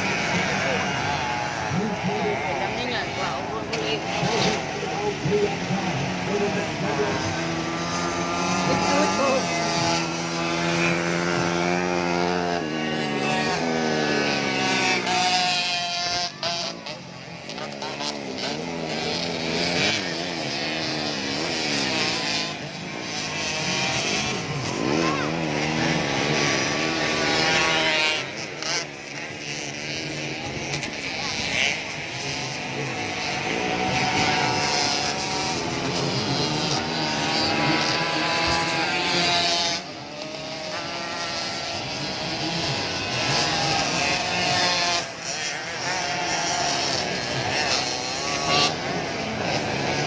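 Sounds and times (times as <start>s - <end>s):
motocross bike engines revving: 0.0s - 50.0s.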